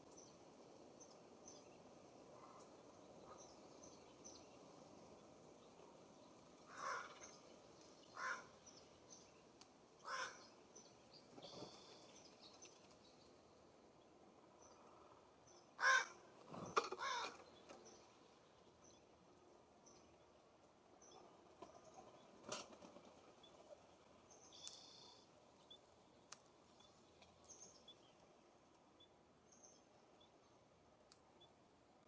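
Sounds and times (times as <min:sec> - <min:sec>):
small birds chirping: 0:00.0 - 0:31.7.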